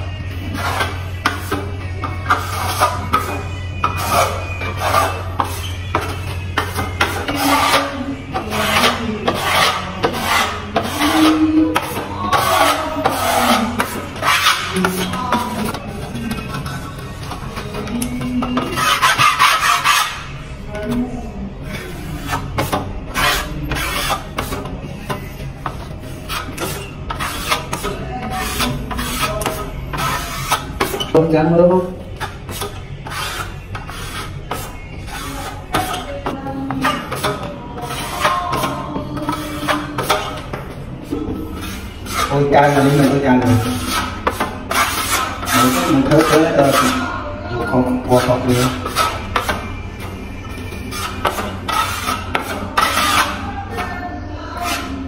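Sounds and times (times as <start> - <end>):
trowel scraping plaster on wall: 0.5 - 20.3, 21.7 - 31.2, 32.2 - 49.8, 50.5 - 53.9, 54.6 - 55.0.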